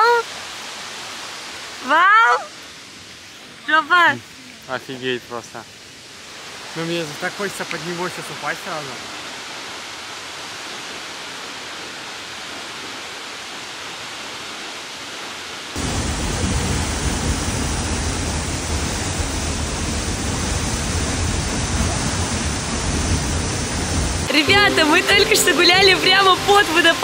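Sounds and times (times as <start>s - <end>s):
waterfall rushing: 0.0s - 2.9s, 5.2s - 27.0s.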